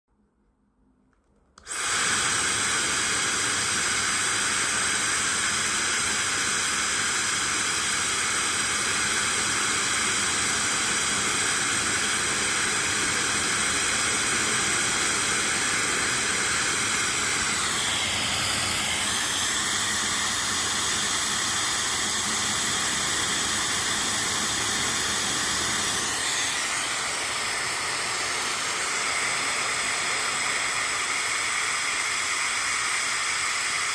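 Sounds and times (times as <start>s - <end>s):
hair dryer blowing: 1.6s - 33.9s
hair dryer switch: 1.6s - 33.9s.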